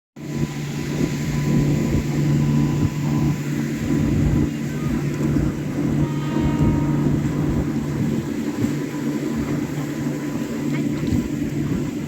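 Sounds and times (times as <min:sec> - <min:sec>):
train rumbling: 0:00.2 - 0:12.0.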